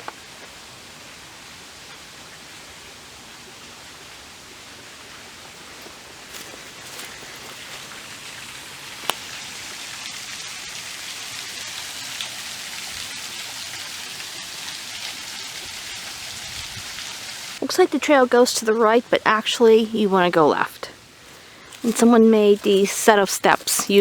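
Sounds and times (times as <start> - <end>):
small waterfall rushing: 0.0 - 19.8.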